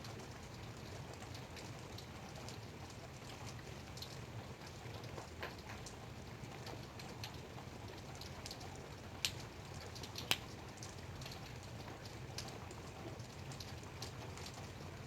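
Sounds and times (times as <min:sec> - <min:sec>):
light rain drops ticking: 0:00.0 - 0:15.0.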